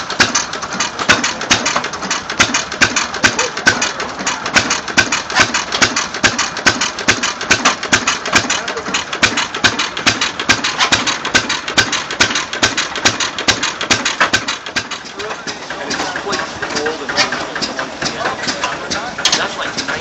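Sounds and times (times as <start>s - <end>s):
stamp mill clanking: 0.0s - 20.0s.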